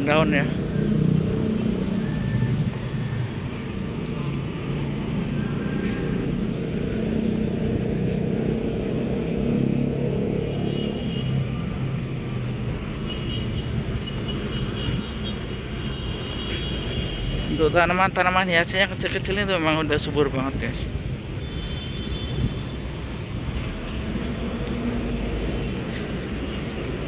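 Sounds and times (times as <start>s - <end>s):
city road traffic rumble: 0.0s - 27.0s.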